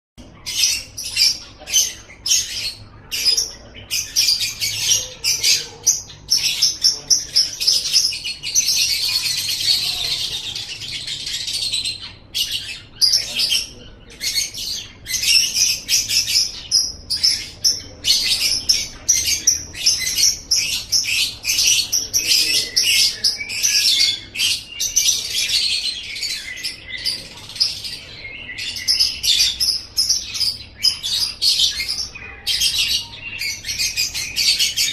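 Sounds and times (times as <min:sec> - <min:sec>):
bird chirping and trilling: 0:00.2 - 0:34.9.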